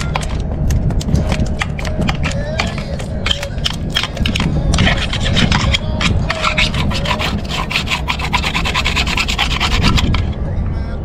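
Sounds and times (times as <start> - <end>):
hand tool scraping a surface: 0.0 - 10.4
steady low hum: 0.0 - 11.0.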